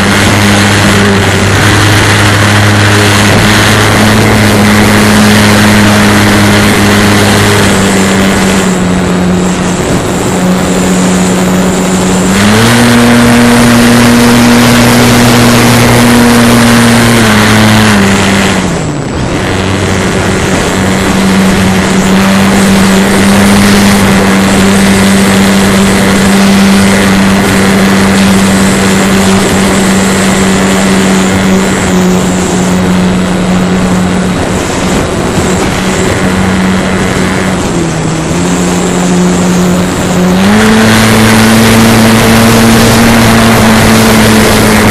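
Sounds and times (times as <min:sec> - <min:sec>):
model airplane motor and propeller: 0:00.0 - 0:44.9
wind rush: 0:00.0 - 0:44.9.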